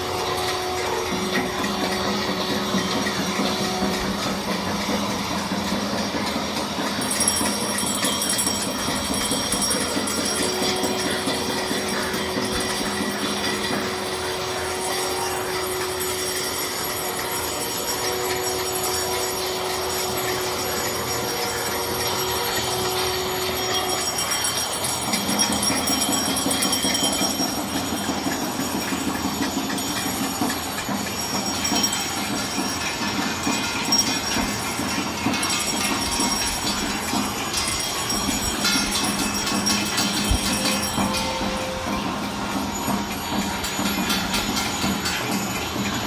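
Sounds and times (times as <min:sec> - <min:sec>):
bells ringing: 0:00.0 - 0:46.0
long held tones: 0:00.0 - 0:46.0.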